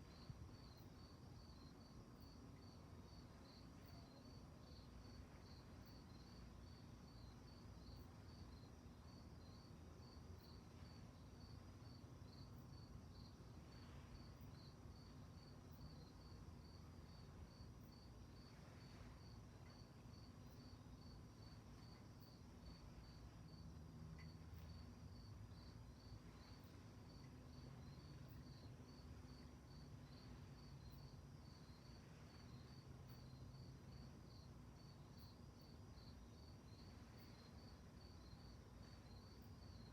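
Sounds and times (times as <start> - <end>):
crickets chirping: 0.0 - 39.9
low steady rumble: 0.0 - 39.9.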